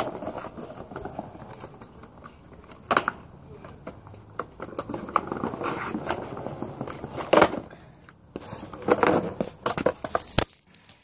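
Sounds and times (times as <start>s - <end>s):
scooter wheels clattering on bricks: 0.0s - 11.0s.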